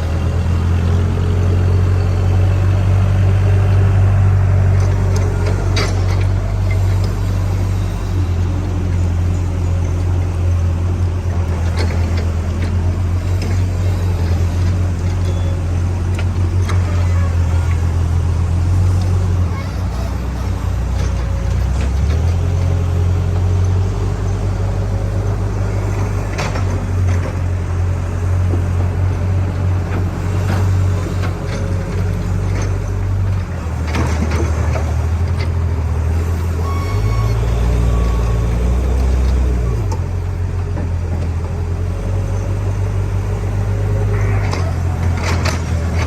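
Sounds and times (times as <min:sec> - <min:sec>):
backhoe engine rumbling: 0:00.0 - 0:46.0.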